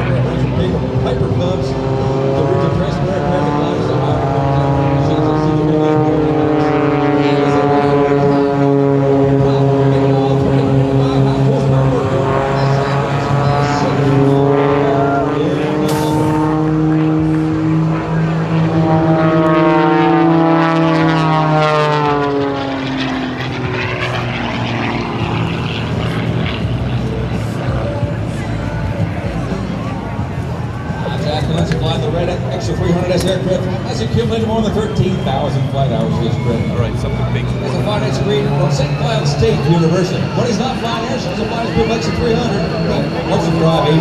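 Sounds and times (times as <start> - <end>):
propeller plane engines droning: 0.0 - 44.0.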